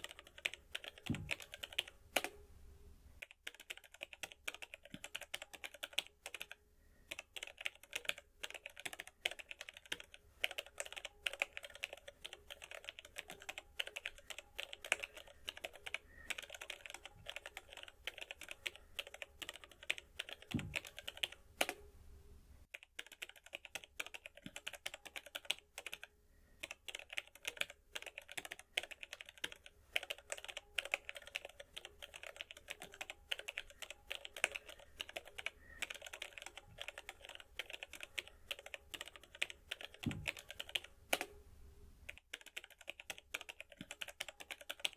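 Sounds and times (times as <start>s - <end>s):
typing on computer keyboard: 0.0s - 2.4s, 3.2s - 21.8s, 22.7s - 41.4s, 42.1s - 44.9s.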